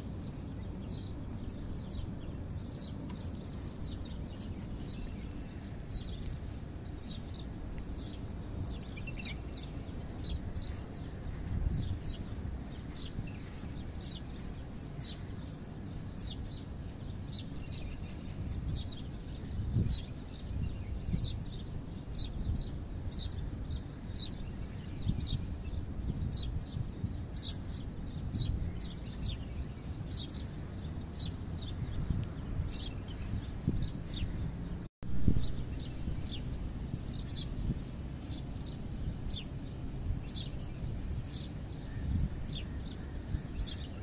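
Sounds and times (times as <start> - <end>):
small bird chirping: 0.0 - 44.0
steady low rumble: 0.0 - 44.0.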